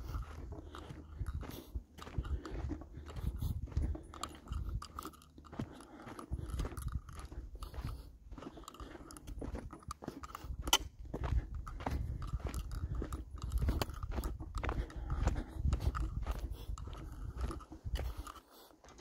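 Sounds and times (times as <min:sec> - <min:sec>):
footsteps on gravel: 0:00.0 - 0:19.0.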